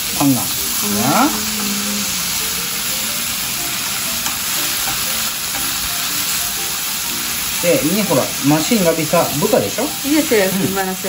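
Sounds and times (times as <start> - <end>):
food sizzling in a frying pan: 0.0 - 11.0
chopsticks stirring food: 0.2 - 11.0.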